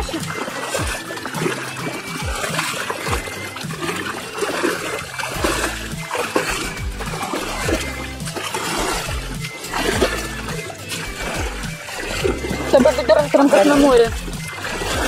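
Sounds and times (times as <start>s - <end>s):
background music: 0.0s - 15.0s
water splashing in paddling pool: 0.0s - 15.0s.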